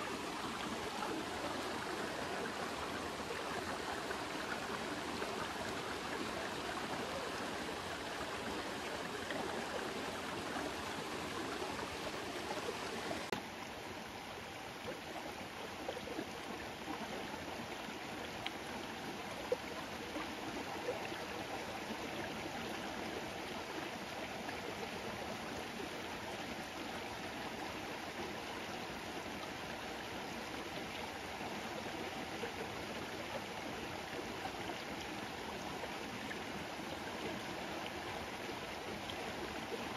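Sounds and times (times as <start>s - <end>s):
rocky stream running: 0.0s - 39.9s.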